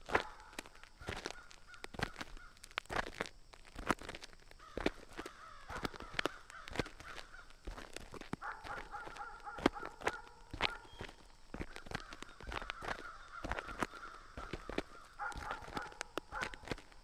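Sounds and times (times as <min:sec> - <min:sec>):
crows cawing: 0:00.0 - 0:02.8, 0:04.6 - 0:17.0.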